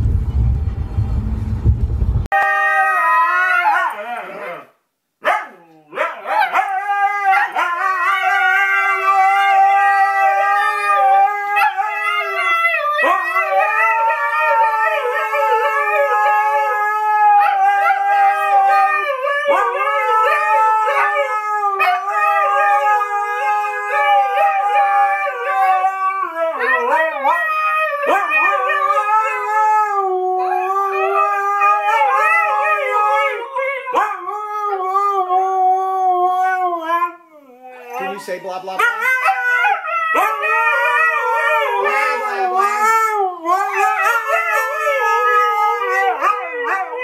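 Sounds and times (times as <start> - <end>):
huskies howling: 2.3 - 4.7, 6.0 - 47.0.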